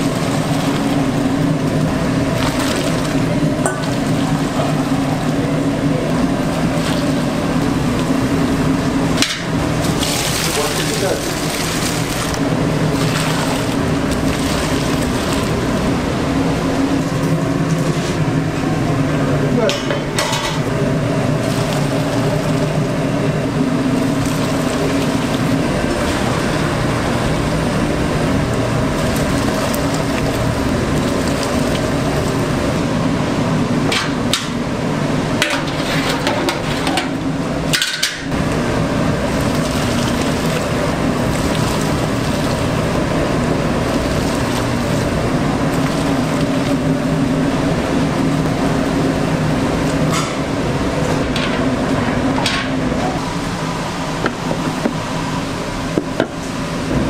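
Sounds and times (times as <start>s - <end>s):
kitchen equipment hum: 0.0s - 57.0s.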